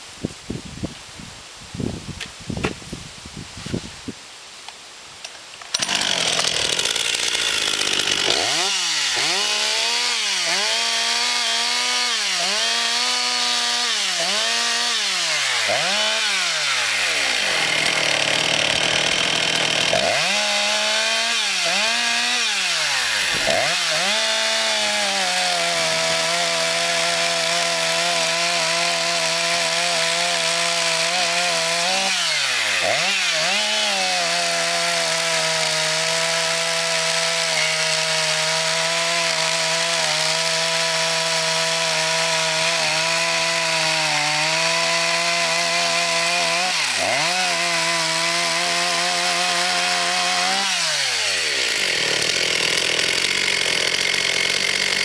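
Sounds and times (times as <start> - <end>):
chainsaw revving and cutting log: 5.6 - 55.0.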